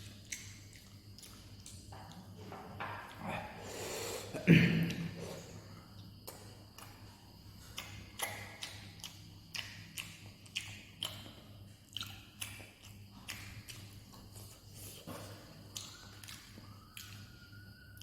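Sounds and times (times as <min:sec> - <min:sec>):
wet chewing and mouth smacks: 0:00.0 - 0:02.4, 0:05.9 - 0:18.0
faint low hum: 0:00.0 - 0:18.0.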